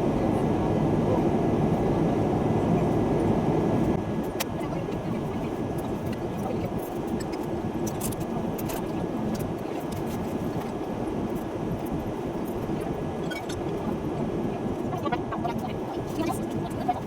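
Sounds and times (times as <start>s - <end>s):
vehicle interior rumbling: 0.0s - 17.0s.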